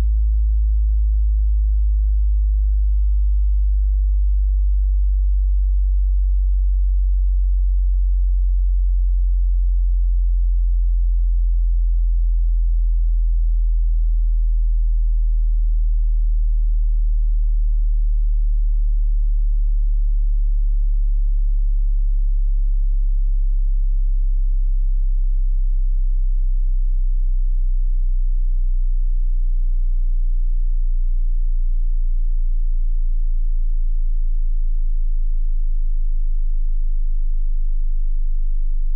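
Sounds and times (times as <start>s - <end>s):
low sine tone sweeping down: 0.0s - 38.9s.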